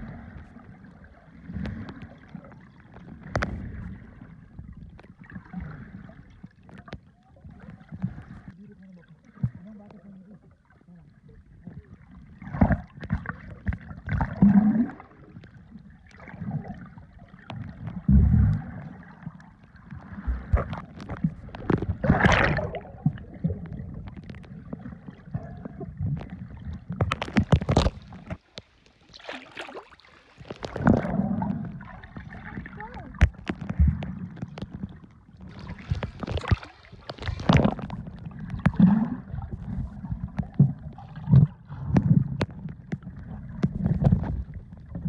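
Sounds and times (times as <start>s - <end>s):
muffled underwater sloshing: 0.0s - 45.0s
splashes and knocks: 1.3s - 8.6s, 12.4s - 45.0s.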